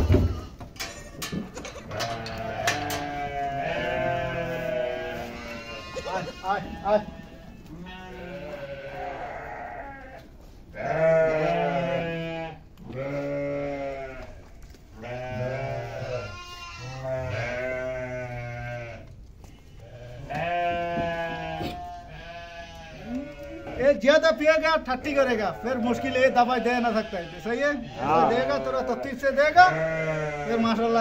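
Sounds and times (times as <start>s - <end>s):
goats bleating: 0.0s - 31.0s.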